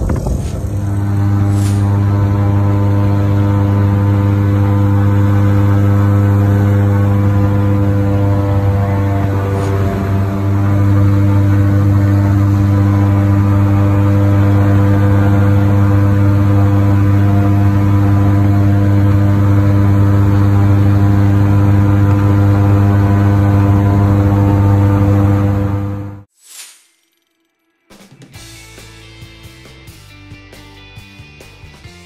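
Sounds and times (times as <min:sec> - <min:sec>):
airboat engine and propeller drone: 0:00.0 - 0:26.3.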